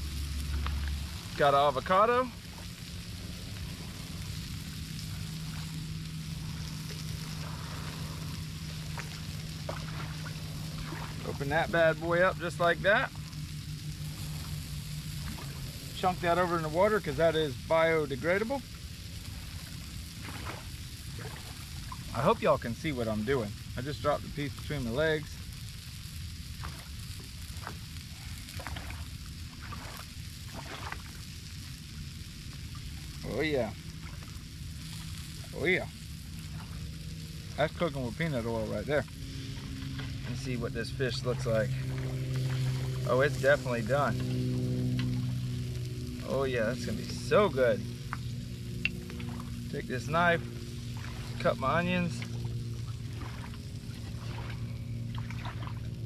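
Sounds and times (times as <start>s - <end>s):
food sizzling on a griddle: 0.0s - 53.8s
constant low hum: 0.0s - 56.0s
constant low rumble: 0.0s - 56.0s.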